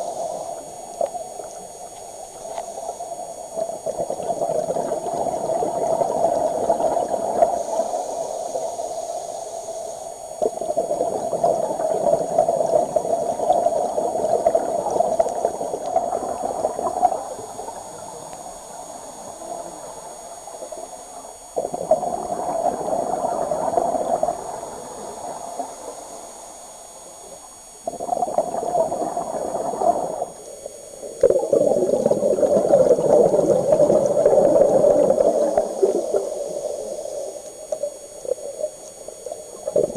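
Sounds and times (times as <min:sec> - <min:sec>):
diver's bubbles gurgling underwater: 0:00.0 - 0:08.6, 0:10.4 - 0:25.8, 0:27.8 - 0:39.9.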